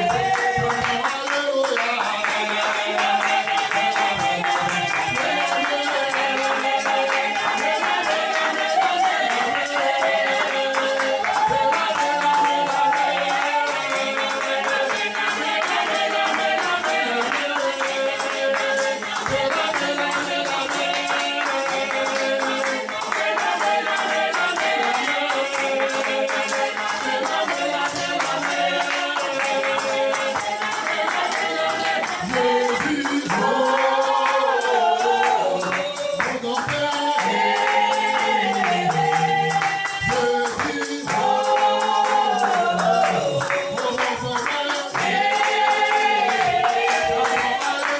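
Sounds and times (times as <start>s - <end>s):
fast percussion beat: 0.0s - 47.9s.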